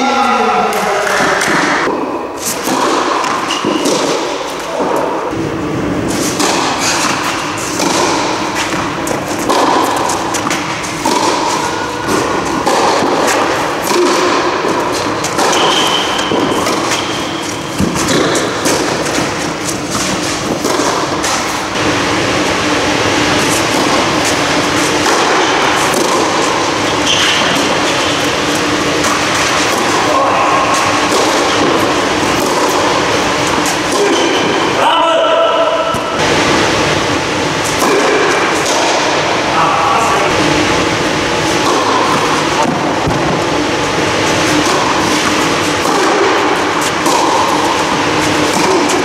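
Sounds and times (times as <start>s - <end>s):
steady background hum: 0.0s - 49.0s
tennis racket strikes: 0.7s - 5.4s, 6.1s - 49.0s.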